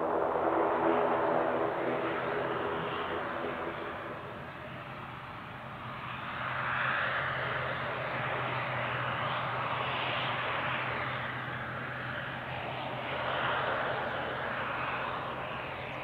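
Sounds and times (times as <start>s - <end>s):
turboprop engines roaring: 0.0s - 16.0s.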